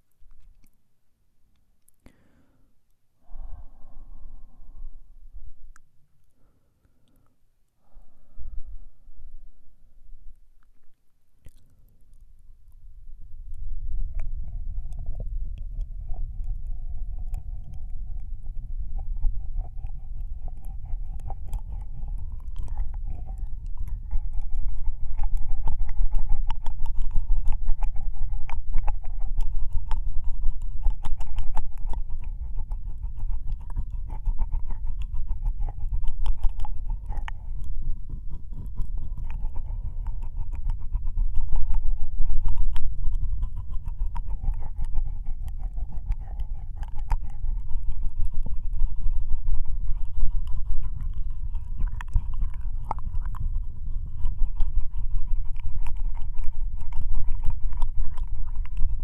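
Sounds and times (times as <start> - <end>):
low rumble: 3.2 - 6.4, 7.9 - 10.9, 11.6 - 59.0
wet mouth licking sounds: 10.6 - 12.4, 13.5 - 59.0.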